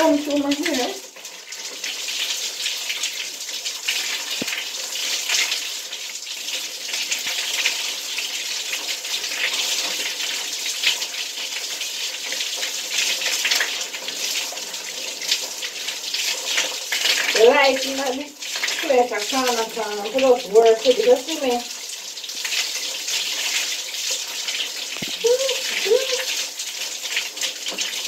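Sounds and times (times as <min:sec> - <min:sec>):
shower water spraying: 0:00.0 - 0:05.7, 0:06.9 - 0:28.0.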